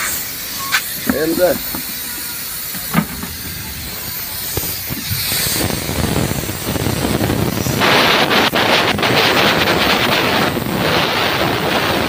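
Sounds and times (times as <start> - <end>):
wind buffeting microphone: 1.0 - 12.0.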